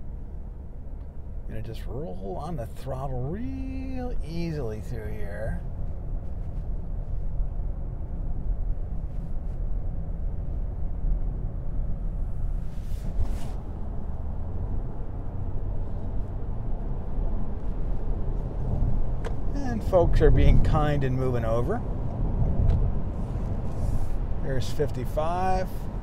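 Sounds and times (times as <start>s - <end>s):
engine and tyre rumble: 0.0s - 26.0s.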